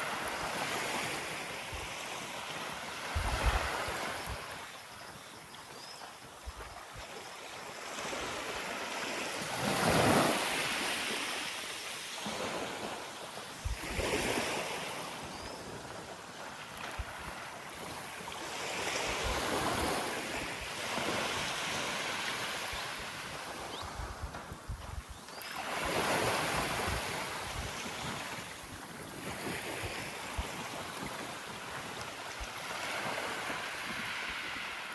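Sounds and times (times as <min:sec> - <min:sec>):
small waves breaking on beach: 0:00.0 - 0:34.9.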